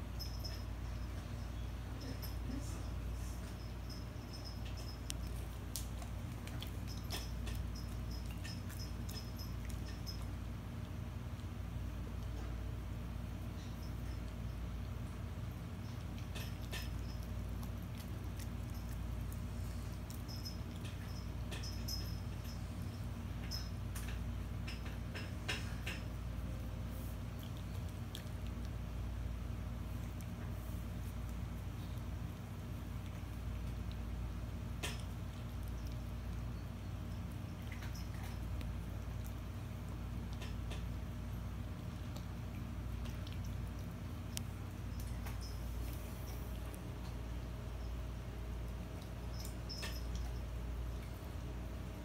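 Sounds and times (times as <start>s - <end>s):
puppy chewing and licking: 0.0s - 52.0s
steady low hum: 0.0s - 52.0s.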